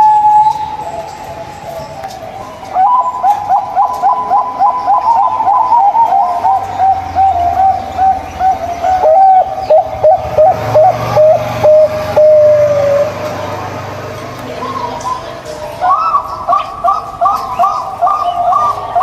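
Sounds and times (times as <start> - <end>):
dove cooing: 0.0 - 13.7, 14.4 - 19.0.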